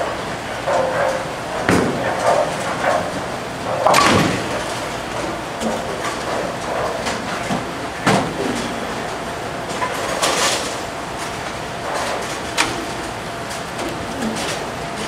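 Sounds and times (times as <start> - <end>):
rumble of rolling bowling balls: 0.0 - 15.0
bowling pins clattering: 0.5 - 15.0.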